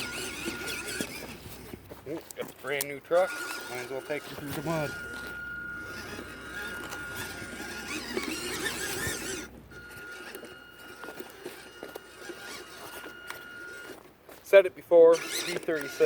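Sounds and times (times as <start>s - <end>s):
tyres churning through mud: 0.0s - 14.0s, 15.1s - 16.0s
electric motor and gearbox whining: 0.0s - 16.0s.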